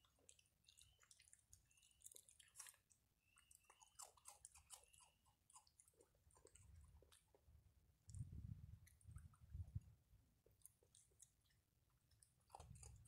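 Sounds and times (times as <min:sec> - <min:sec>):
raccoons crunching dry treats: 0:00.0 - 0:08.2, 0:10.1 - 0:13.0.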